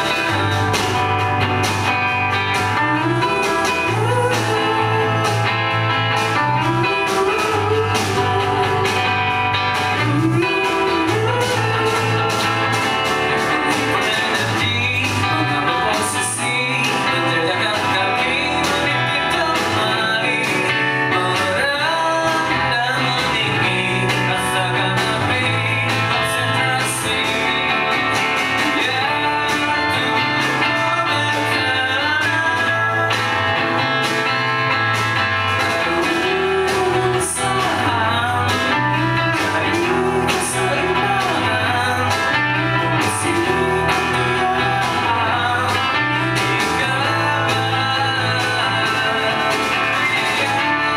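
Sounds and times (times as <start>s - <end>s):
man singing: 0.0s - 50.9s
rock band playing: 0.0s - 50.9s.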